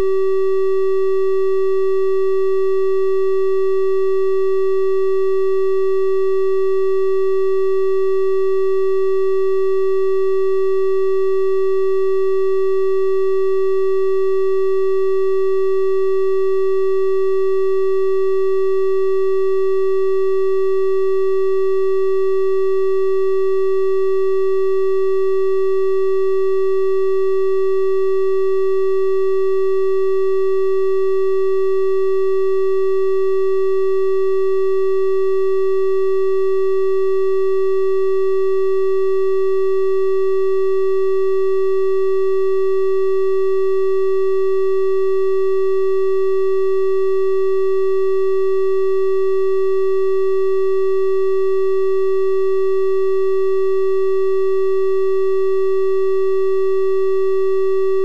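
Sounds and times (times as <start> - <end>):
electronic triangle-wave tone: 0.0 - 58.0.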